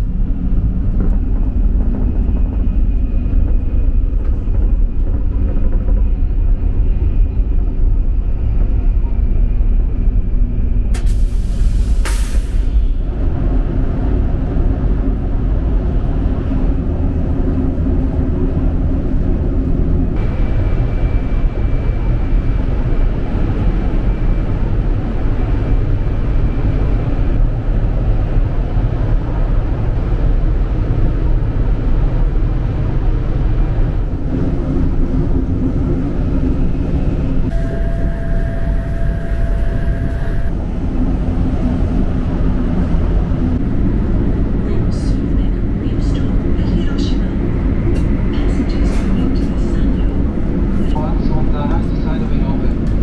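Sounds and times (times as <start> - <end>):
train rumbling at speed: 0.0 - 53.0.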